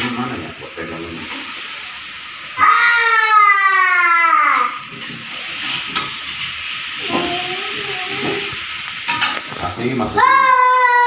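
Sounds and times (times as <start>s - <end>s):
stir-frying sizzle in a wok: 0.0s - 11.0s.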